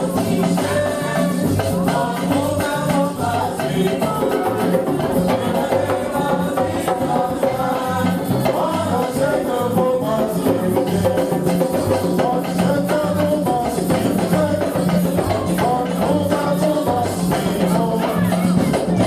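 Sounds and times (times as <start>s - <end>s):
drums and shakers beat: 0.0s - 19.0s
group singing a church song: 0.0s - 19.0s.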